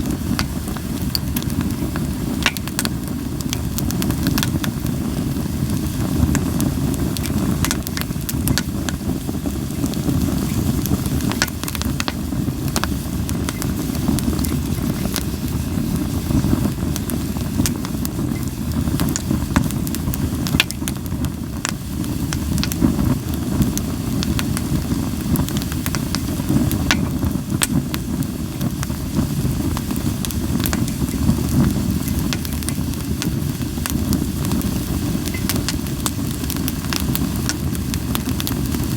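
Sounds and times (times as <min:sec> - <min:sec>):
firewood popping and crackling: 0:00.0 - 0:38.9
low fire rumble: 0:00.0 - 0:38.9.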